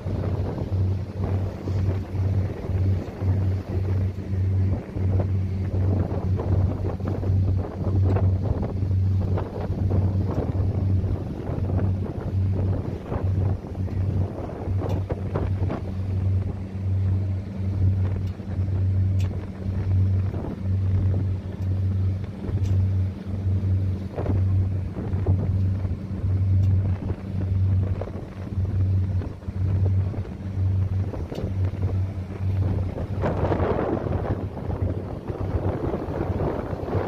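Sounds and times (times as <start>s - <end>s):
boat engine throbbing hum: 0.0s - 37.0s
wind on microphone: 0.0s - 37.0s.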